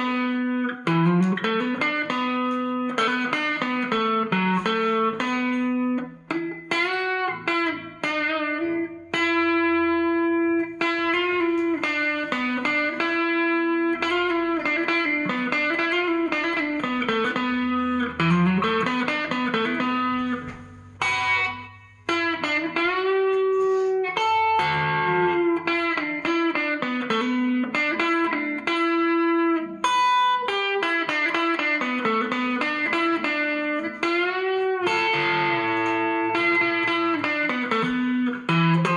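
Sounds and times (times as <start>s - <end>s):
crunchy electric guitar riffs: 0.0s - 38.9s.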